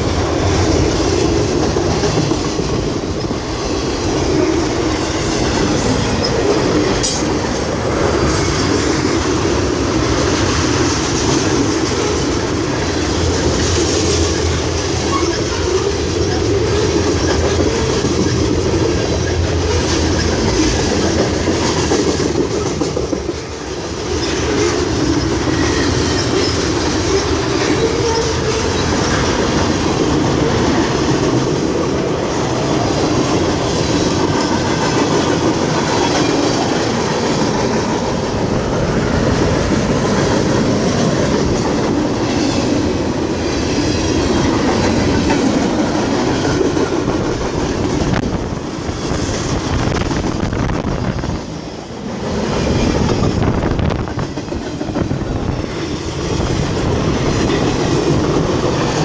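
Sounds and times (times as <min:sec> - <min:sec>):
freight train cars rolling past: 0:00.0 - 0:59.0
wheels clacking over rail joints: 0:00.0 - 0:59.0.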